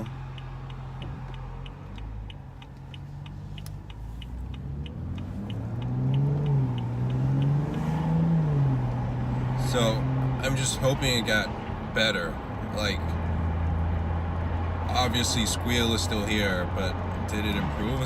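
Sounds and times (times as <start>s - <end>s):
car engine revving: 0.0s - 18.0s
turn signal ticking: 0.0s - 18.0s.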